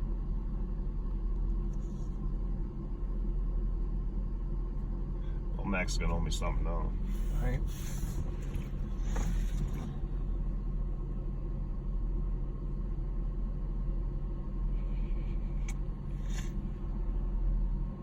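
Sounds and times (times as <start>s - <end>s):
car engine and road noise: 1.5s - 18.0s.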